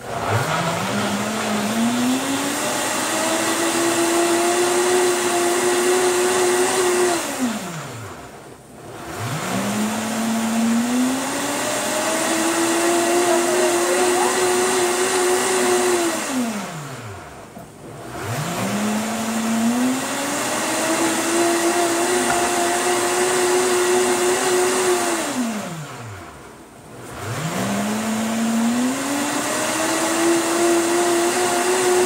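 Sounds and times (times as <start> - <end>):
blender motor whining: 0.0 - 26.4, 27.0 - 32.0.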